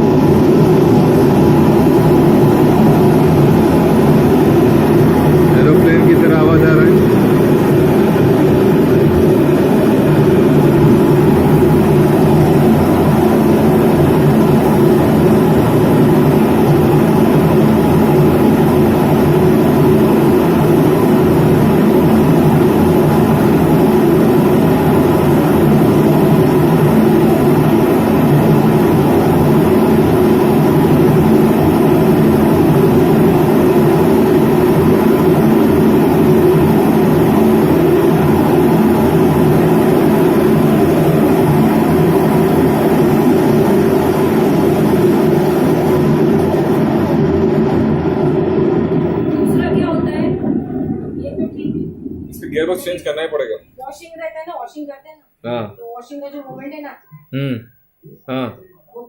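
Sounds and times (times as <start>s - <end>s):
washing machine motor drone: 0.0s - 54.7s.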